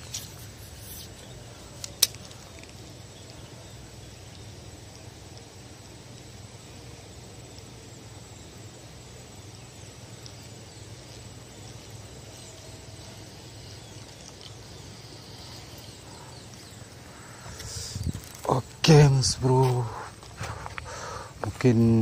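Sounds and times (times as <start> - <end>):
constant hiss: 0.0 - 22.0.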